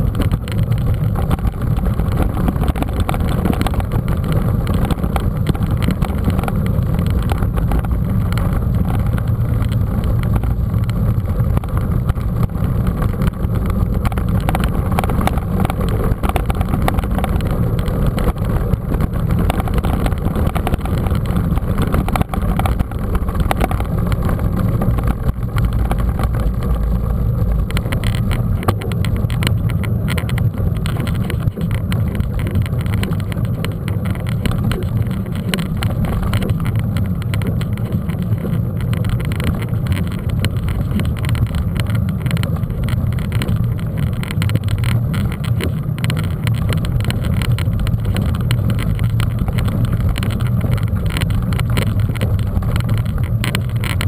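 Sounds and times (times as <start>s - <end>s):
bike rattles and clicks: 0.0s - 54.0s
wind rumble on microphone: 0.0s - 54.0s.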